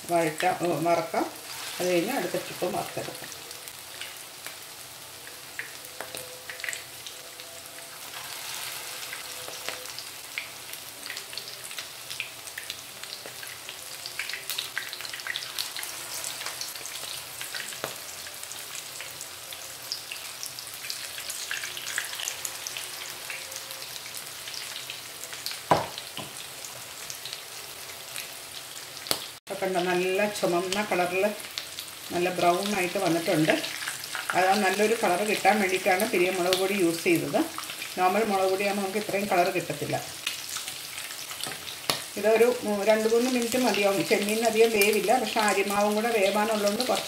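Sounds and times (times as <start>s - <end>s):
prawns sizzling in hot oil: 0.0s - 47.0s.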